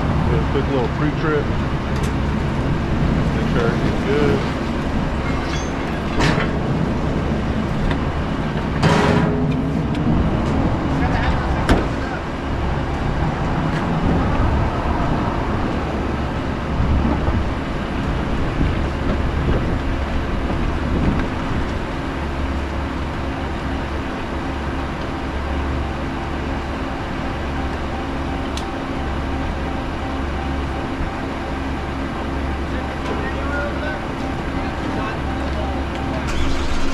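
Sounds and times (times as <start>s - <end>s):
truck engine idling: 0.0s - 36.9s.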